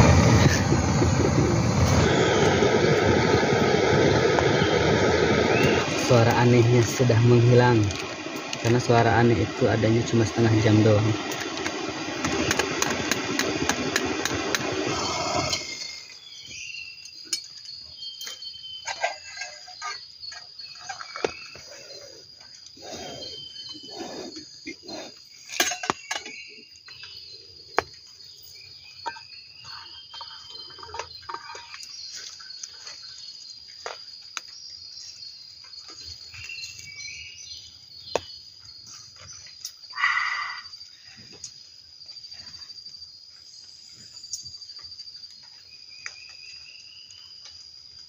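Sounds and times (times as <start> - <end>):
crickets trilling: 0.0 - 48.0
insect chirps: 0.0 - 48.0.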